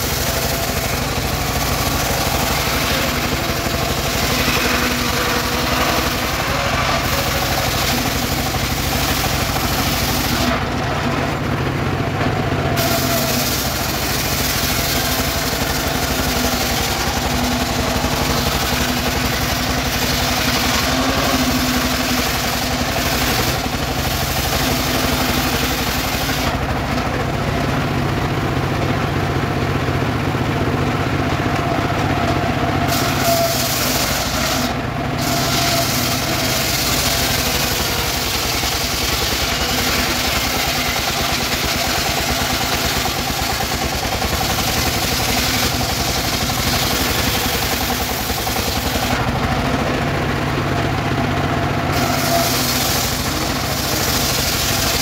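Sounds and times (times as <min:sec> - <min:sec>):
sawmill blade ripping log: 0:00.0 - 0:11.6, 0:12.2 - 0:27.0, 0:31.6 - 0:50.0, 0:51.8 - 0:55.0.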